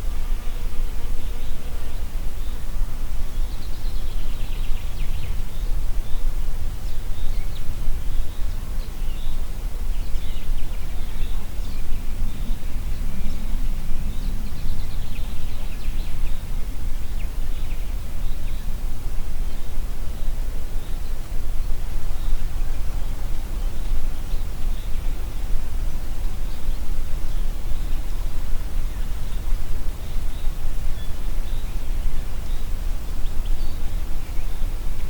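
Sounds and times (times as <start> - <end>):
wind rumble on microphone: 0.0 - 35.0
wind through trees: 0.0 - 35.0.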